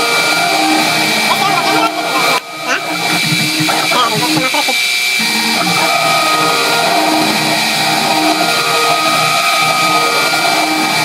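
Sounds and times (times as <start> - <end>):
milling machine spindle whine: 0.0 - 11.0.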